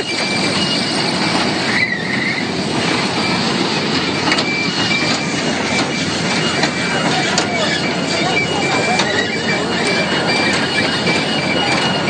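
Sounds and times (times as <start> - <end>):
ride rumbling clatter: 0.0 - 12.0.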